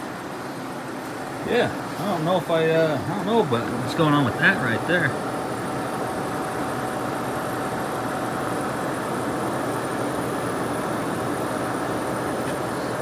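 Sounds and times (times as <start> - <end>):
window air conditioner fan rushing: 0.0 - 13.0.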